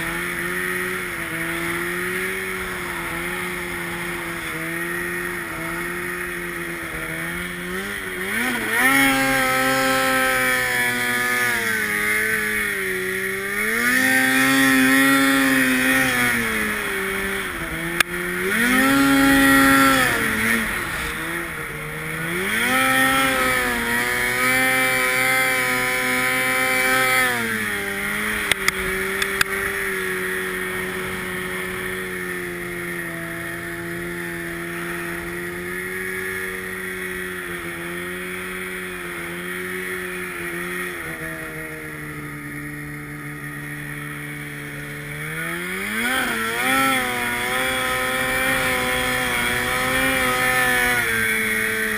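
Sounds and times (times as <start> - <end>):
snowmobile engine revving: 0.0 - 51.9.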